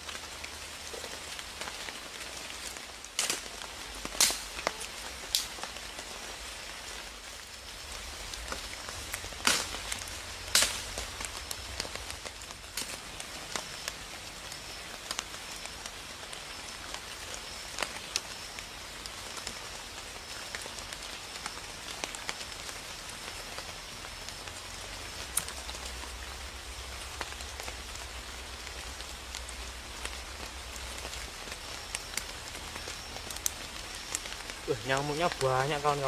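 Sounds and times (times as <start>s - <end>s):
light rain falling: 0.0s - 36.0s
sharp ticks of raindrops: 0.0s - 36.0s.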